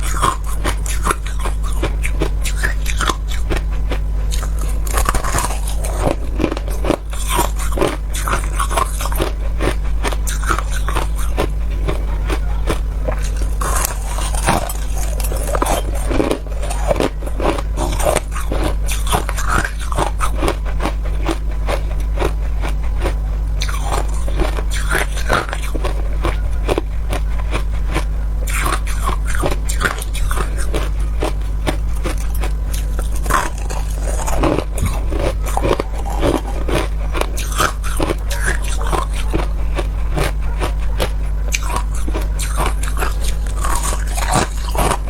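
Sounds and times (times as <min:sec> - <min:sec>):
ice crunching in mouth: 0:00.0 - 0:45.0
low hum: 0:00.0 - 0:45.0.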